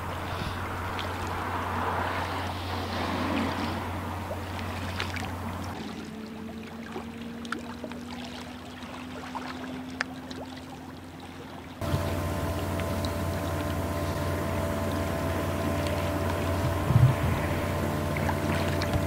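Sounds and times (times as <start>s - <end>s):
even outdoor background noise: 0.0s - 19.0s
low engine-like hum: 0.0s - 19.0s.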